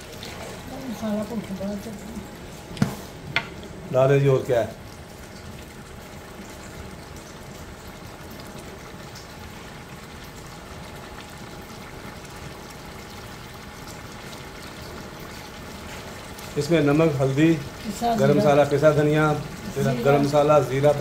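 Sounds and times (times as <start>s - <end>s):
liquid simmering in pot: 0.0s - 21.0s.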